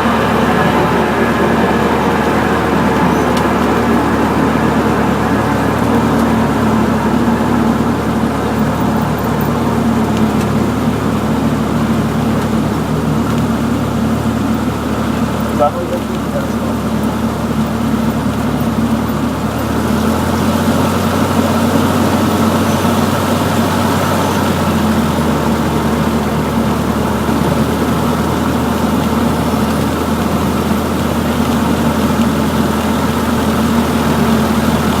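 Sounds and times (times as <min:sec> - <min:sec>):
light aircraft engine running: 0:00.0 - 0:35.0.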